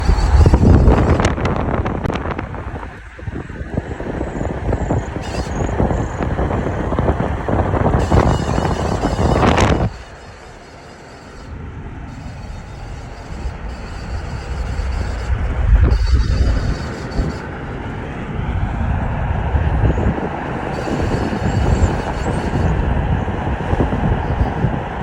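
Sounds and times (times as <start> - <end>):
road and wind noise: 0.0 - 25.0
vehicle low rumble: 0.0 - 25.0.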